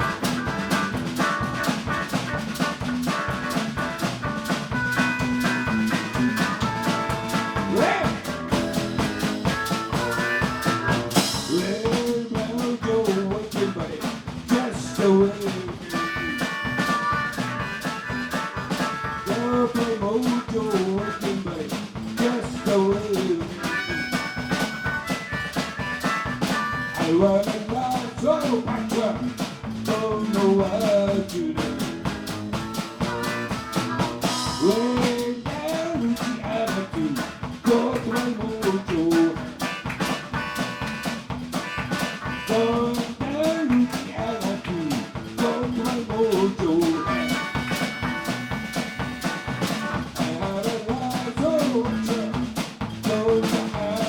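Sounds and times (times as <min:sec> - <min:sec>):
drum kit: 0:00.0 - 0:54.0
live blues band playing: 0:00.0 - 0:54.0.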